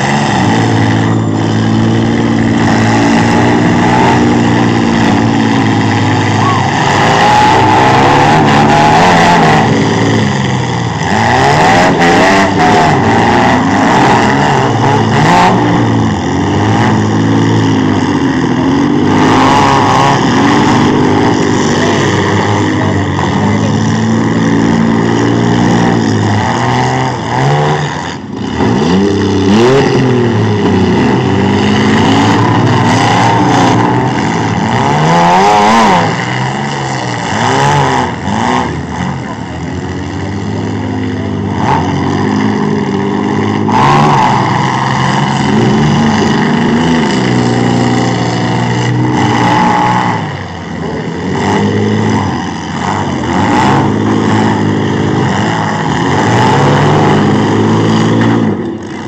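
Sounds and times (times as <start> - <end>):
engines revving hard: 0.0 - 59.0.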